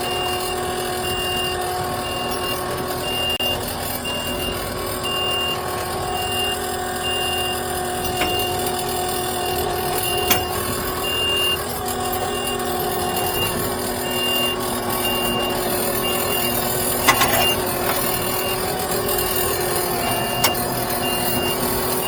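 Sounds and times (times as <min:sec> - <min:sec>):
backup alarm beeping: 0:00.0 - 0:22.0
machine engine running: 0:00.0 - 0:22.0.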